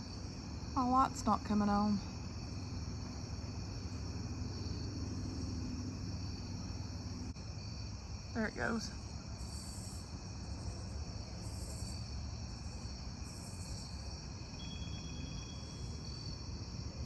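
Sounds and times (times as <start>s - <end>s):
crickets trilling: 0.0s - 17.0s
high insect buzz: 0.0s - 17.0s.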